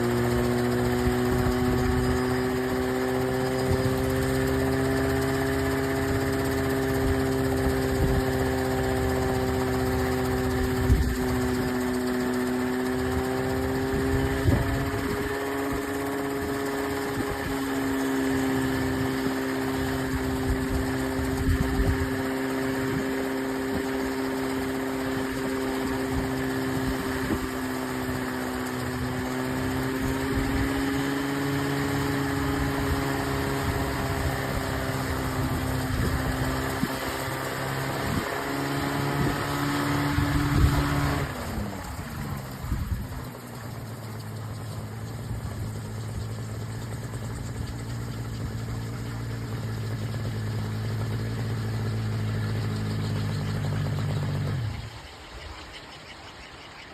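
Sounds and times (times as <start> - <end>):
model helicopter humming: 0.0 - 56.9.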